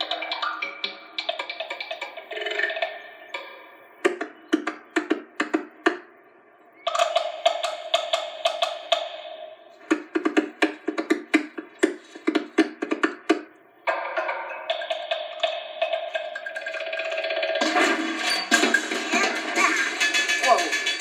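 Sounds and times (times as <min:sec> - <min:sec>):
rhythmic wooden knocks: 0:00.0 - 0:21.0.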